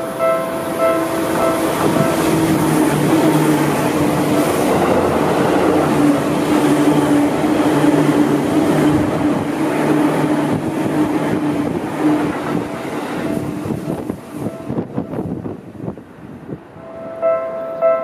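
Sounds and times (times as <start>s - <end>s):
train passing close by: 0.0s - 18.0s.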